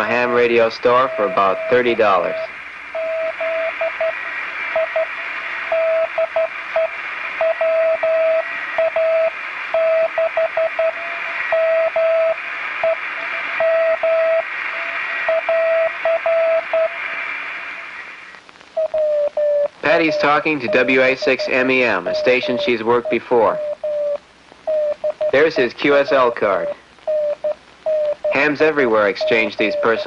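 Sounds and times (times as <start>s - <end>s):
morse code tone: 0.0s - 17.1s, 18.8s - 30.0s
radio receiver hiss: 0.0s - 30.0s.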